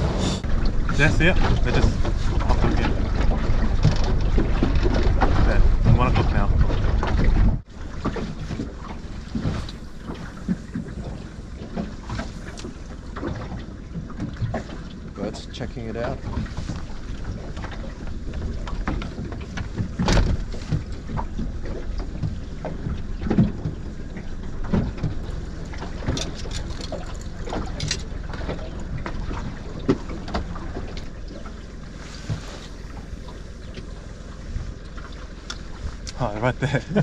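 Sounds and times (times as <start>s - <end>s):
knocks and clicks from boat: 0.0s - 37.0s.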